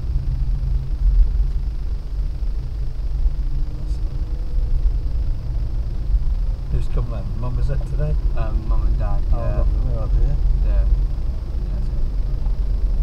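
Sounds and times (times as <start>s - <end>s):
car engine and tyre rumble: 0.0s - 13.0s
faint hum: 0.0s - 13.0s.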